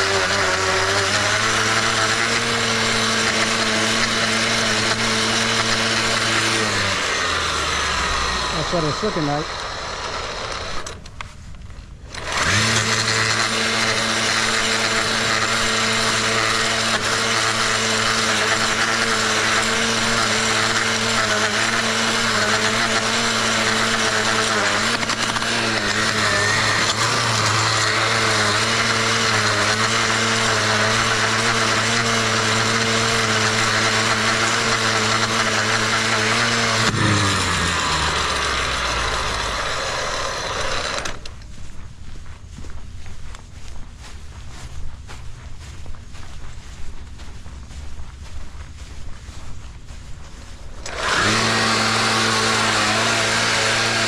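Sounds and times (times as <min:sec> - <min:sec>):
gas-powered edger engine revving: 0:00.0 - 0:11.1, 0:12.1 - 0:41.4, 0:50.8 - 0:54.0
blade cutting grass edge: 0:00.0 - 0:41.8, 0:43.3 - 0:54.0.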